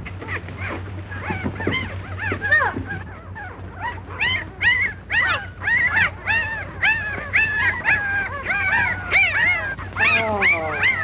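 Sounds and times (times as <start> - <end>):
puppies whimpering and yipping: 0.0 - 11.0.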